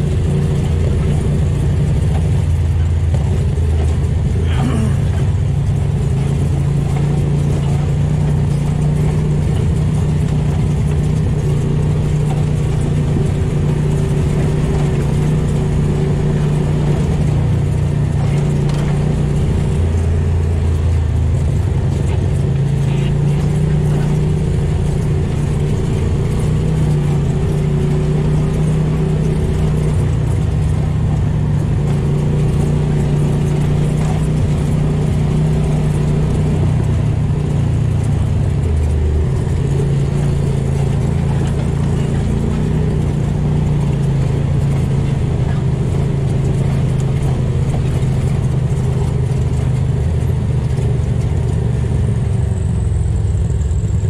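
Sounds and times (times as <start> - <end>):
side-by-side engine drone: 0.0 - 54.0.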